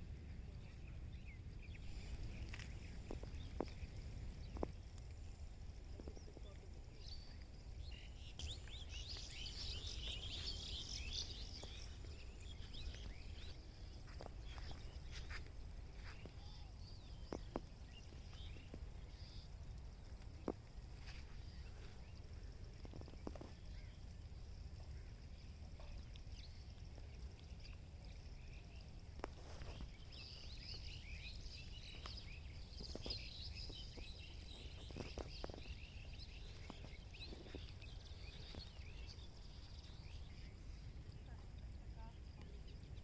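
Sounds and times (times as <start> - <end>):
low rumble of wind: 0.0 - 43.0
birds chirping: 0.3 - 43.0.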